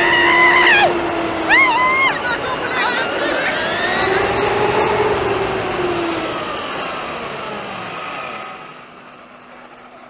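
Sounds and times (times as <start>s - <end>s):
electric motor and gears whining: 0.0s - 9.9s.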